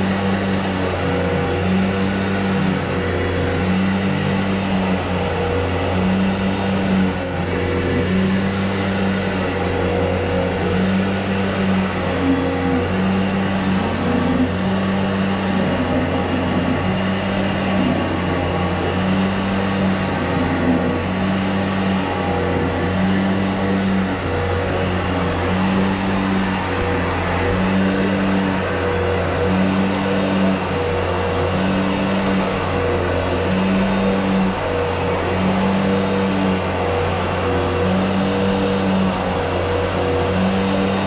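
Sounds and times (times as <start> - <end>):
drain-cleaning machine motor humming: 0.0 - 41.0.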